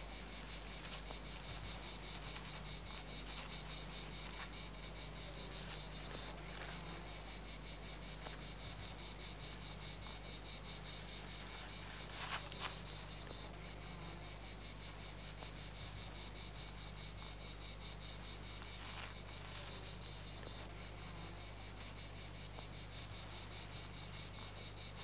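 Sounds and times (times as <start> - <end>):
faint low hum: 0.0 - 25.0
insects trilling: 0.0 - 25.0.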